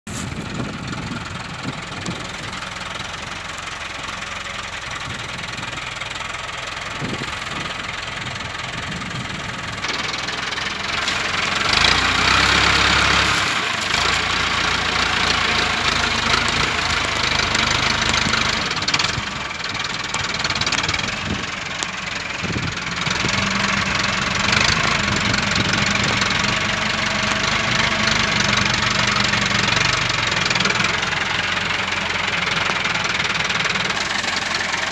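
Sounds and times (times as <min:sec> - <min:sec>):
tractor diesel engine clatter: 0:00.0 - 0:34.9.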